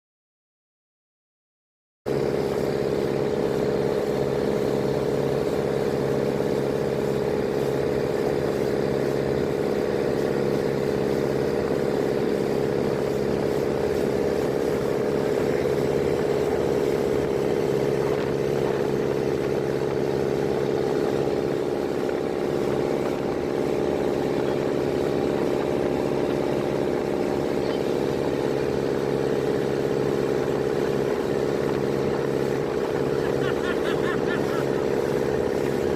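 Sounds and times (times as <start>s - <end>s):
engine droning: 2.1s - 35.9s.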